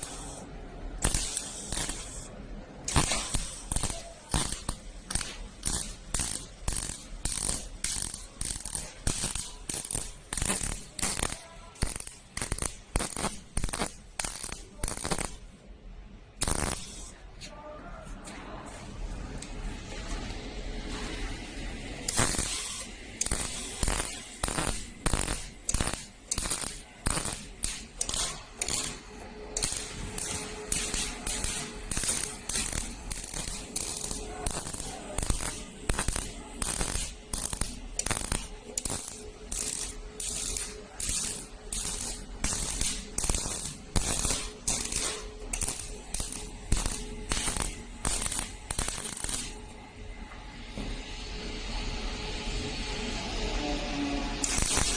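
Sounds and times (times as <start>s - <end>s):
welding arc crackling and hissing: 0.0s - 15.7s, 16.3s - 17.4s, 20.8s - 50.0s, 51.8s - 54.9s.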